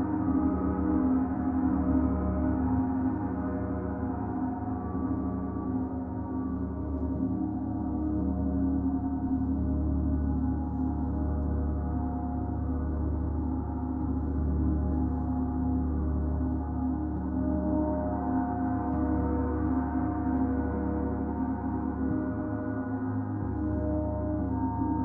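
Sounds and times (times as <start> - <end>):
sustained gong drone: 0.0 - 25.0.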